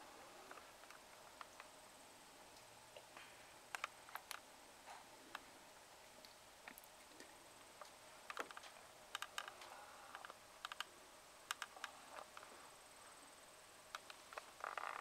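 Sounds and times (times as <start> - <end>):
faint clicks and ticks: 0.4 - 1.8, 2.5 - 12.6, 13.9 - 15.0.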